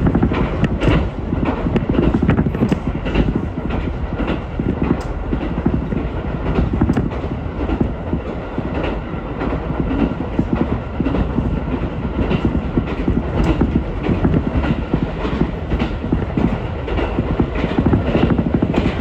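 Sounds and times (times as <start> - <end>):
train rumble inside carriage: 0.0 - 19.0
wheels clickety-clack over rail joints: 0.0 - 19.0.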